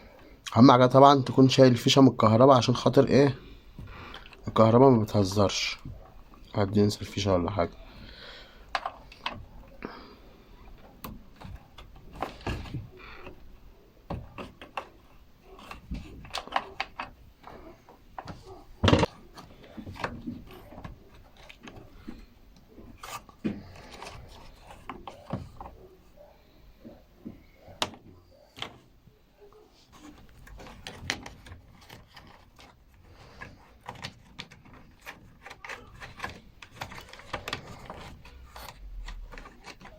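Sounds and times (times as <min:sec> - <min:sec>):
tools clicking and knocking on panels: 0:03.7 - 0:39.9.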